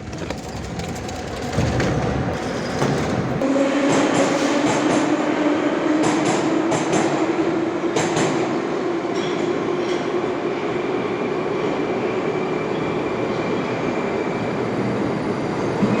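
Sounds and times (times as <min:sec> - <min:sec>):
metro train rumbling on rails: 0:00.0 - 0:16.0.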